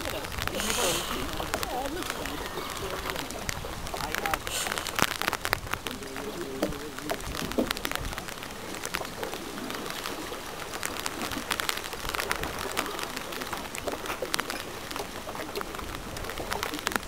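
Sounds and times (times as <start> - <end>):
water drops pattering: 0.0 - 17.0.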